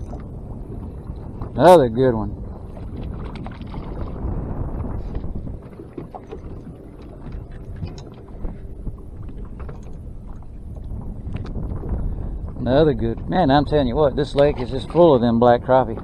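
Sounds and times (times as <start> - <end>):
choppy water against a boat: 0.0 - 16.0
wind buffeting microphone: 0.0 - 16.0.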